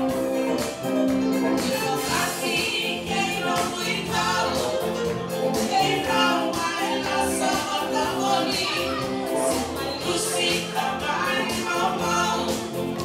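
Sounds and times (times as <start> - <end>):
electric guitar: 0.0 - 13.0
keyboard: 0.0 - 13.0
woman singing: 1.6 - 4.9, 5.5 - 13.0.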